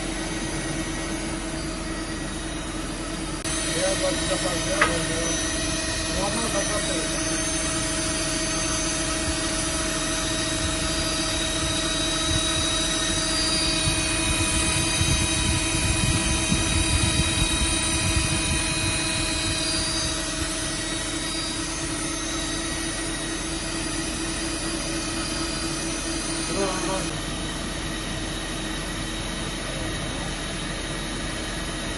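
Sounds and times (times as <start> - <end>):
grinding machine whine: 0.0 - 31.9
low machine rumble: 0.0 - 31.9.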